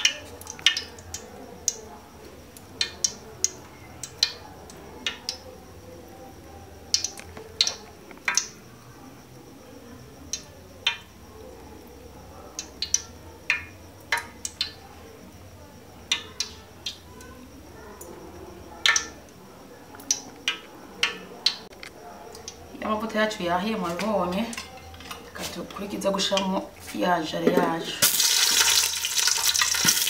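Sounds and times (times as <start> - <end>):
hot oil popping and crackling: 0.0 - 9.4, 10.2 - 30.0.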